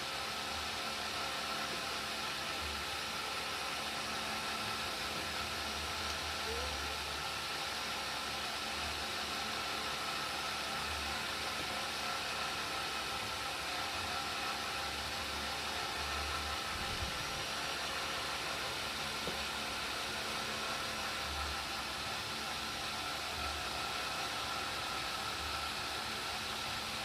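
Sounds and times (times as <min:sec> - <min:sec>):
cotton candy machine whirring: 0:00.0 - 0:27.0
faint hum: 0:00.0 - 0:27.0.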